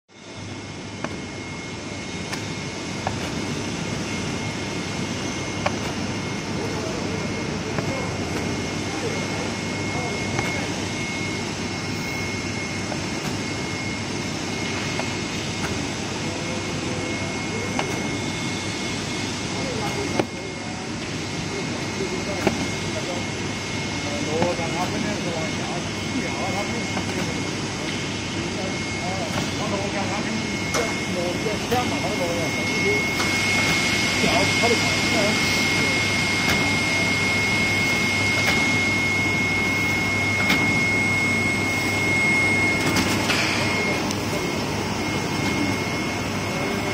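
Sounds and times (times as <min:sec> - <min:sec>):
production line machinery running: 0:00.1 - 0:46.9.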